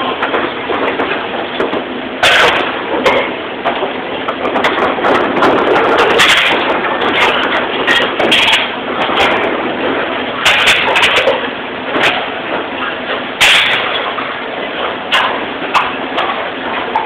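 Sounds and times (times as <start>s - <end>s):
dishes and racks clinking: 0.0s - 17.0s
steady running noise: 0.0s - 17.0s.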